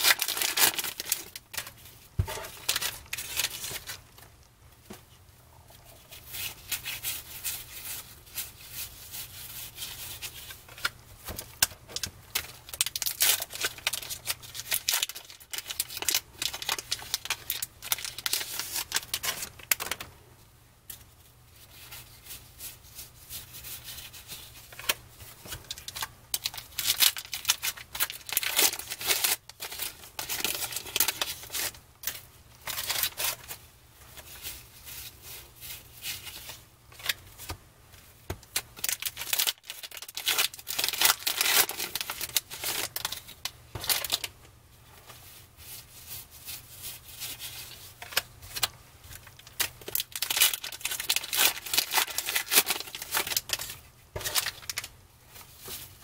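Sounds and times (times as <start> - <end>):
wrapper crinkling: 0.0 - 4.2, 5.9 - 20.0, 25.6 - 37.5, 38.4 - 44.4, 45.1 - 56.0.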